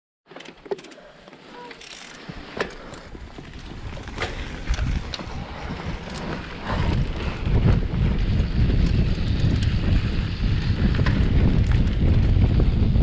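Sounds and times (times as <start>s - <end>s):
bike tyres on gravel: 0.3s - 13.0s
sharp bike clicks: 0.3s - 13.0s
wind rumble on microphone: 2.3s - 13.0s.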